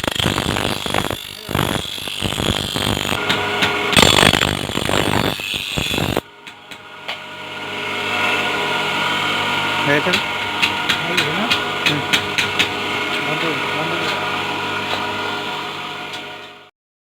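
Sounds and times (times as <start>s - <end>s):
electric grinder running: 0.0s - 16.7s.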